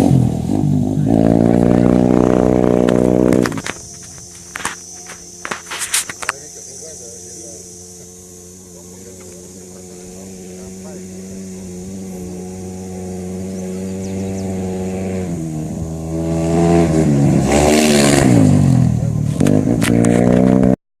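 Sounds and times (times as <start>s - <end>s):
motorcycle engine passing: 0.0s - 20.8s.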